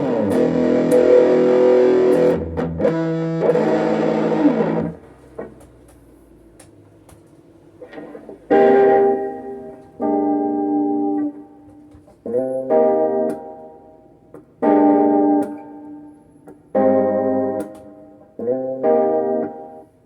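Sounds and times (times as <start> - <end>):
electric guitar strummed chords: 0.0 - 5.9, 7.8 - 20.0.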